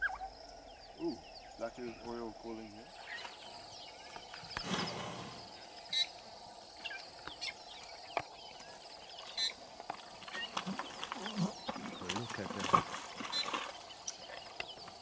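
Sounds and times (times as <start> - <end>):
faint insect hum: 0.0 - 15.0
small birds chirping: 0.0 - 15.0.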